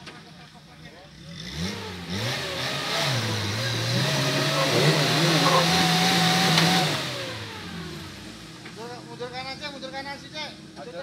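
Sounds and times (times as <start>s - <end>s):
engine straining uphill: 1.2s - 11.0s.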